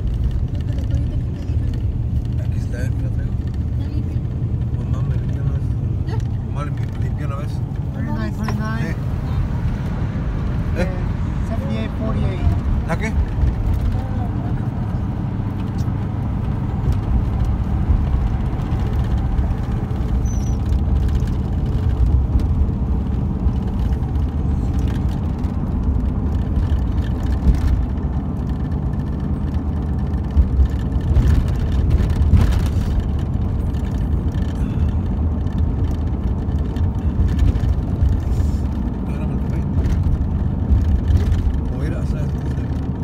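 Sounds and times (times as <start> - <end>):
car interior engine and road noise: 0.0 - 43.0.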